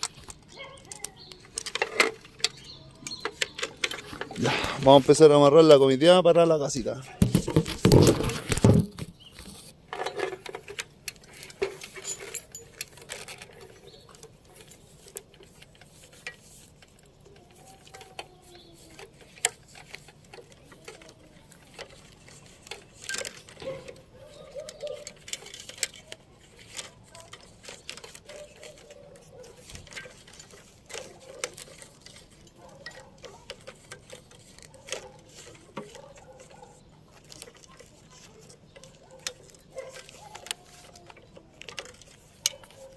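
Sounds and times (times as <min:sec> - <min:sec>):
gloved hands handling cable: 0:00.0 - 0:05.8, 0:06.6 - 0:42.9.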